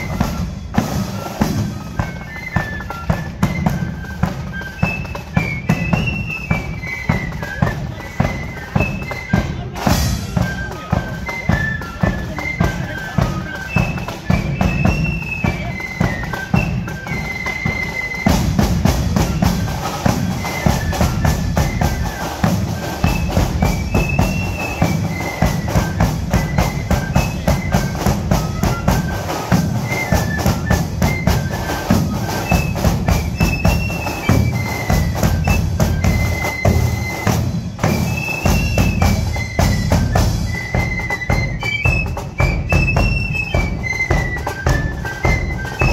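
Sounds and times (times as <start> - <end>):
flutes playing melody: 0.0 - 45.9
rapid drumming: 0.0 - 45.9.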